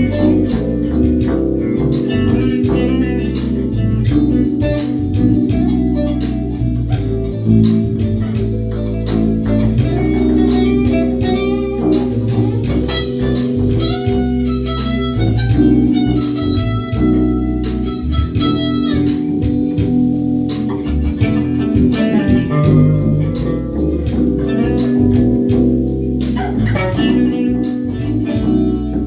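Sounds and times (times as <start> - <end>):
bass guitar playing: 0.0 - 29.0.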